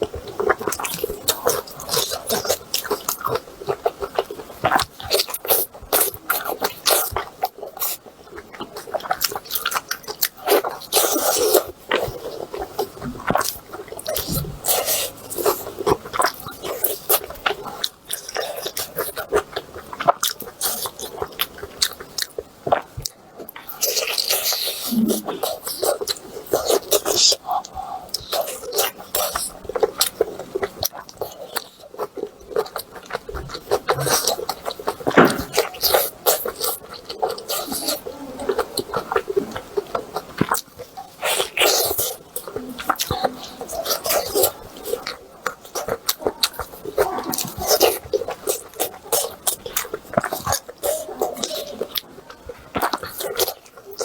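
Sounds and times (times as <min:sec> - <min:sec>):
person chewing and eating: 0:00.0 - 0:54.0.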